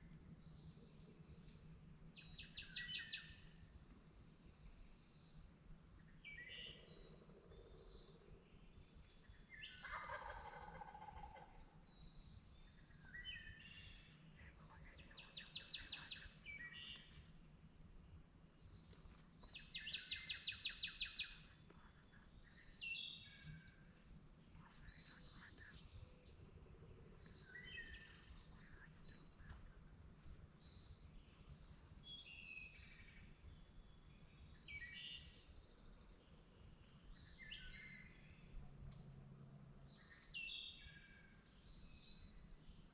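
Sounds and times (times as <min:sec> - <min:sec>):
faint low background noise: 0:00.0 - 0:42.9
songbirds singing: 0:00.0 - 0:42.9.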